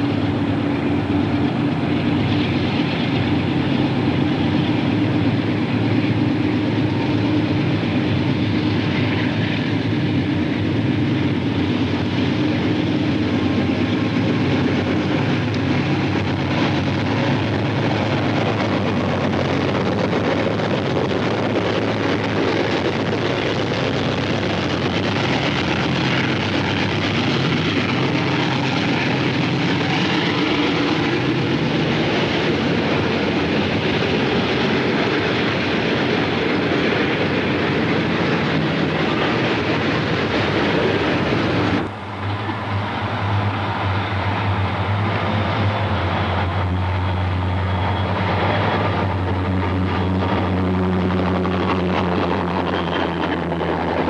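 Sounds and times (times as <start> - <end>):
diesel locomotive engine drone: 0.0 - 54.0
train rolling noise: 0.0 - 54.0.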